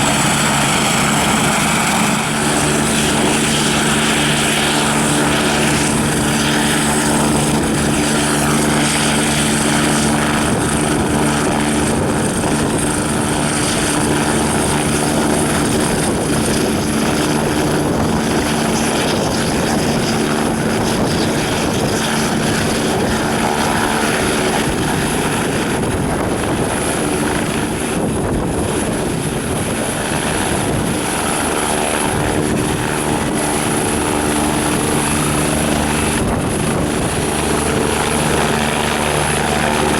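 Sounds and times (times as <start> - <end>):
helicopter rotor rumble: 0.0 - 39.9
helicopter turbine whine: 0.0 - 39.9.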